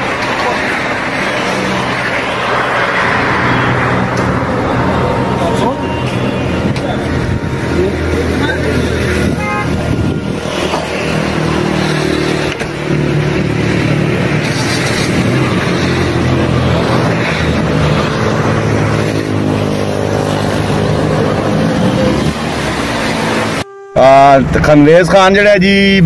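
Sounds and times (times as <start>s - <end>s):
traffic noise: 0.0s - 26.0s
vehicle engine humming: 0.0s - 26.0s.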